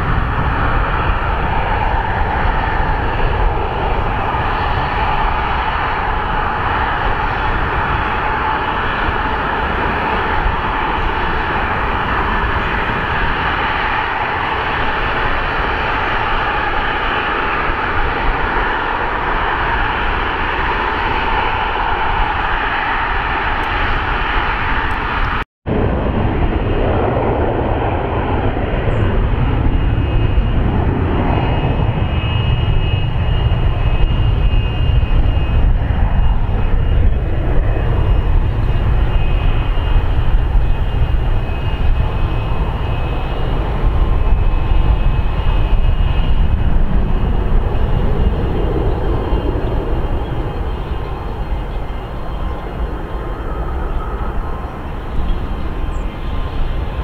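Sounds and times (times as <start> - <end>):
jet engines running: 0.0 - 57.0
low jet engine rumble: 0.0 - 57.0.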